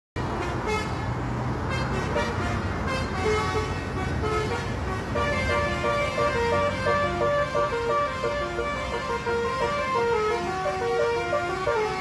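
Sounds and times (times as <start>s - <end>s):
bus engine running: 0.2s - 12.0s
bus horn playing melody: 0.2s - 12.0s.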